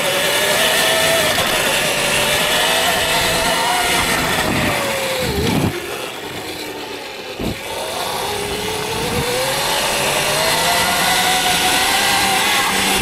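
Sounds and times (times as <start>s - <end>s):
electric motorbike motor whining: 0.0s - 13.0s.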